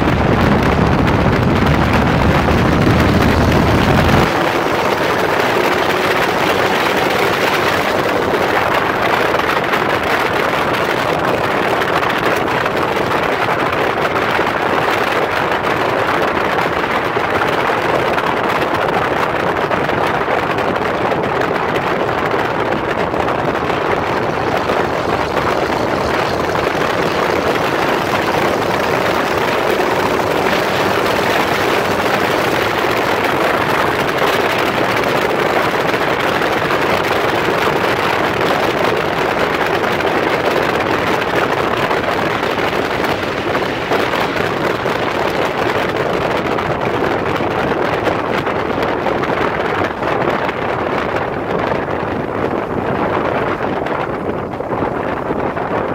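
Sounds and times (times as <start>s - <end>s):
trailer rolling on gravel road: 0.0s - 18.8s, 19.4s - 53.2s.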